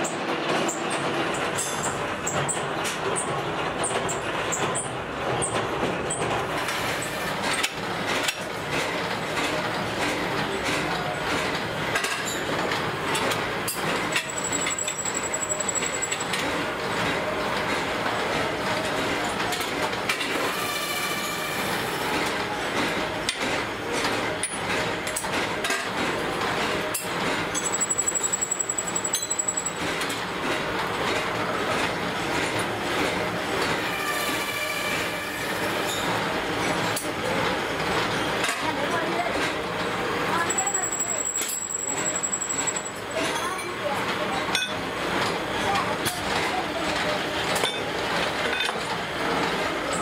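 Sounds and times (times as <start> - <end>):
metalworking machines clattering: 0.0 - 50.0.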